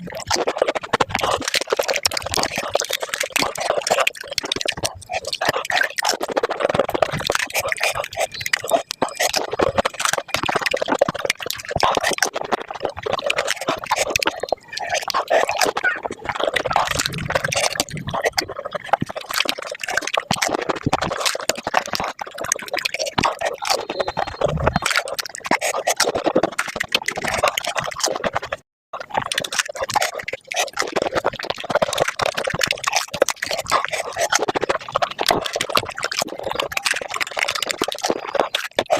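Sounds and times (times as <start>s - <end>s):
wet slurping and chewing: 0.0s - 38.9s.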